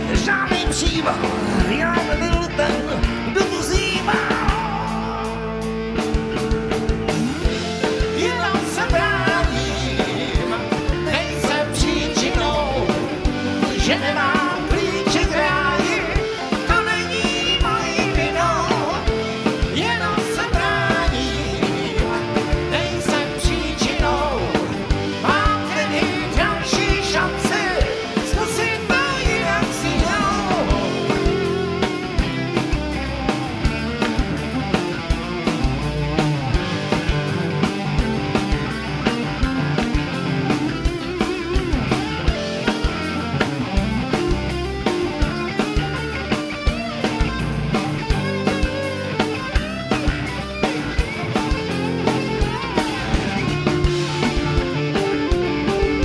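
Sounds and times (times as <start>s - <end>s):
drum kit beat: 0.0s - 56.0s
electric guitars: 0.0s - 56.0s
rock band playing live: 0.0s - 56.0s.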